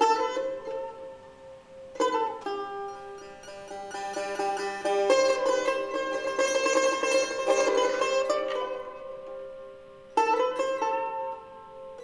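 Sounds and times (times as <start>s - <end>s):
plucked string instrument music: 0.0s - 12.0s.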